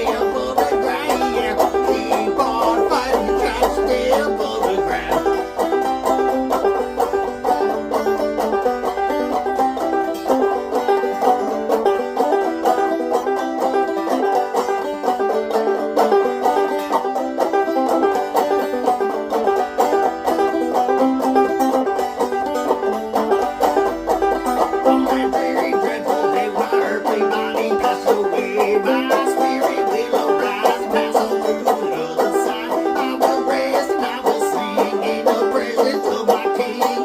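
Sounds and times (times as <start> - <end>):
banjo playing fast: 0.0 - 37.0.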